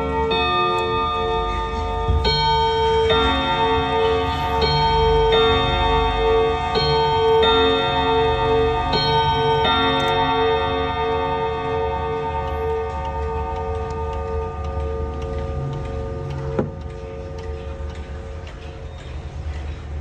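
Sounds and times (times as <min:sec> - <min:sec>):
wall clock two-note chime: 0:00.0 - 0:16.9.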